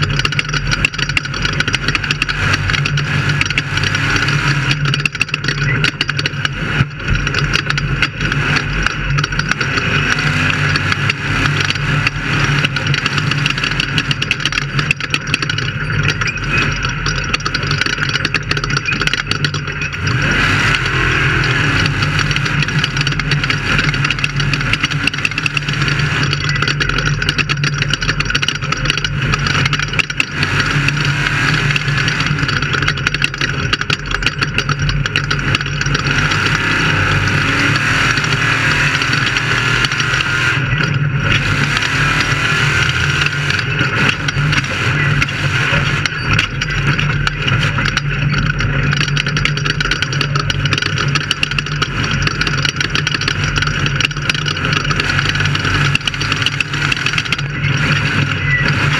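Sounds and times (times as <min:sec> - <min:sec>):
knocks and rattles: 0:00.0 - 0:58.9
race car engine running: 0:00.0 - 0:58.9.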